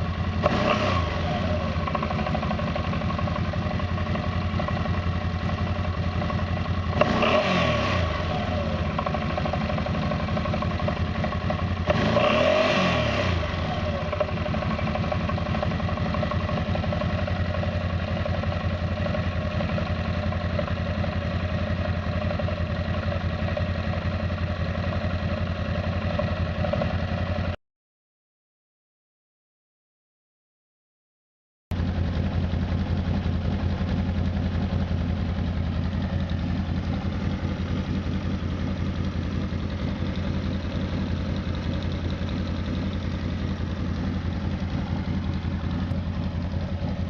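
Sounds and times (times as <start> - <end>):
quad bike engine idling and revving: 0.0 - 27.6, 31.7 - 47.0.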